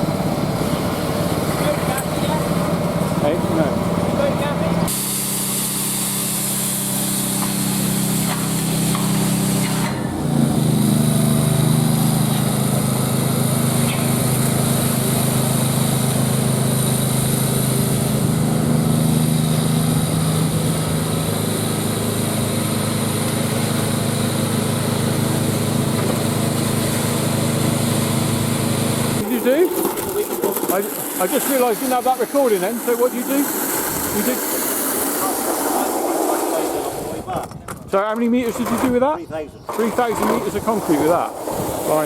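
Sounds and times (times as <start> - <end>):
small engine running: 0.0 - 37.2.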